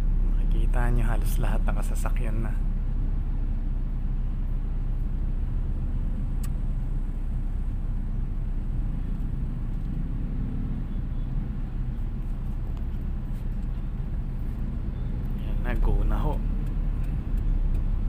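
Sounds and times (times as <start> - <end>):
vehicle engines idling in traffic: 0.0 - 18.0.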